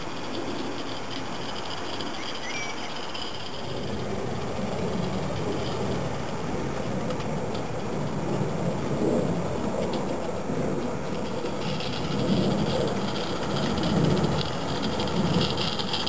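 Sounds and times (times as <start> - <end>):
steam locomotive running on track: 0.0 - 16.0.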